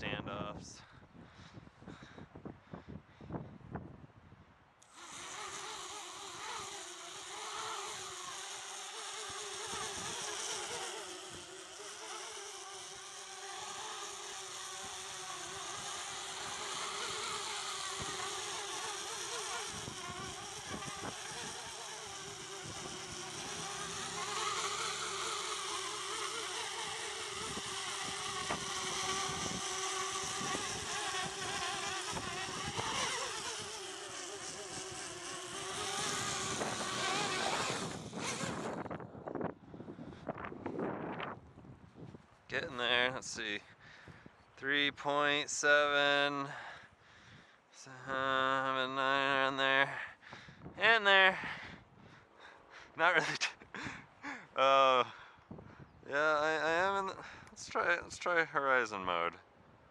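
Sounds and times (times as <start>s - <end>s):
quadcopter motors buzzing: 4.8s - 41.8s, 42.6s - 55.2s, 56.0s - 59.3s.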